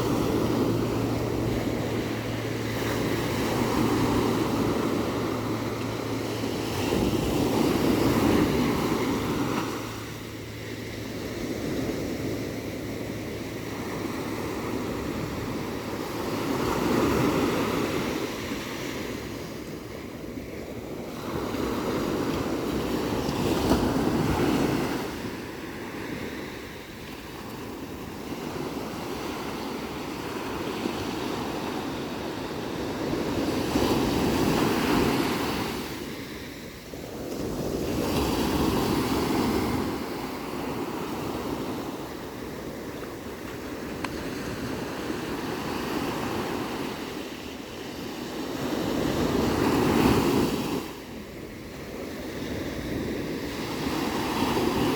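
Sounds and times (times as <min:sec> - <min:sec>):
waves breaking and washing in: 0:00.0 - 0:54.9.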